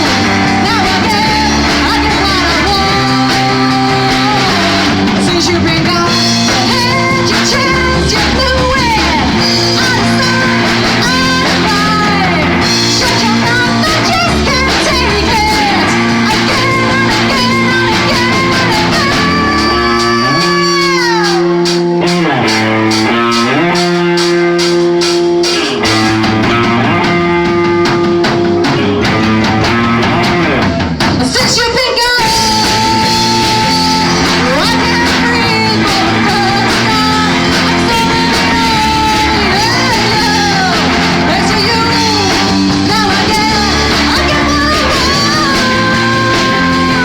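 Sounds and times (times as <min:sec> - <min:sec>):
person singing: 0:00.0 - 0:47.0
rock band playing: 0:00.0 - 0:47.0.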